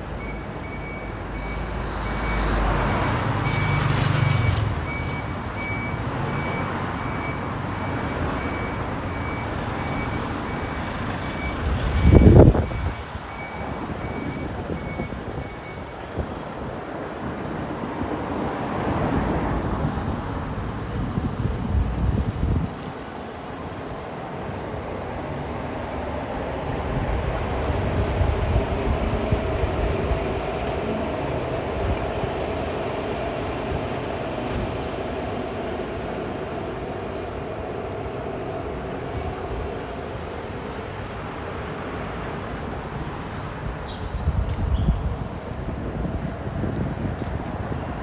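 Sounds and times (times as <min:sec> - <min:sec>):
road traffic: 0:00.0 - 0:48.0.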